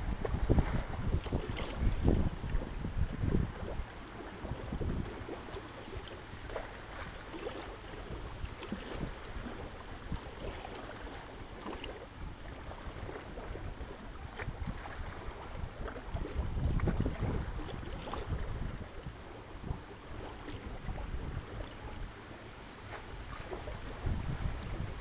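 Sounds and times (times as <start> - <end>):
small waves lapping: 0.0 - 25.0
water splashes: 0.0 - 25.0
wind on microphone: 0.0 - 25.0.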